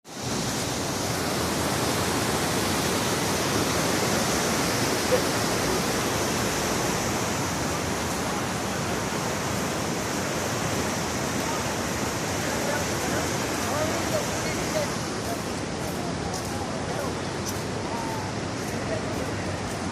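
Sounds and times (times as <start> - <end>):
river water rushing: 0.1 - 19.9.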